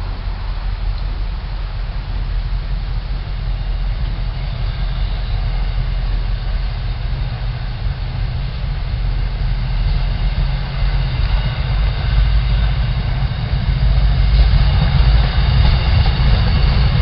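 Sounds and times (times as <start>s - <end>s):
diesel train rumbling: 0.0s - 17.0s
faint high whine: 0.0s - 17.0s.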